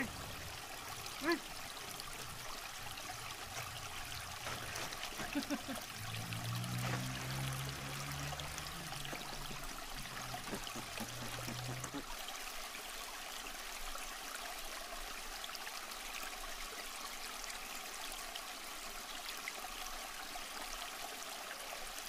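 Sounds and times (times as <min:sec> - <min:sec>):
river running over rocks: 0:00.0 - 0:22.0.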